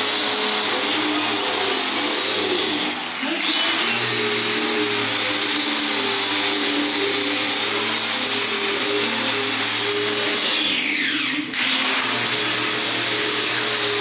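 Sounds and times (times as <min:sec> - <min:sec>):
angle grinder motor whine: 0:00.0 - 0:14.0.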